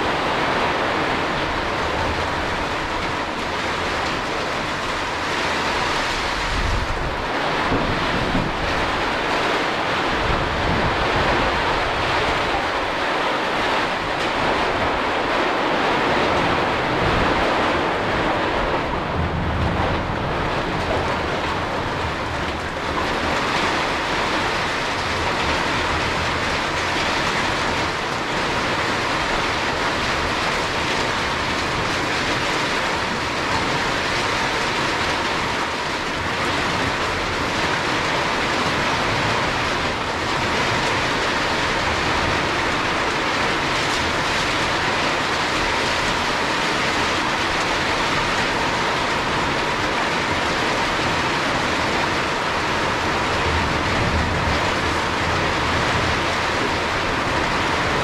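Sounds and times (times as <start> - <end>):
rain falling: 0.0 - 58.0
wind: 0.0 - 58.0.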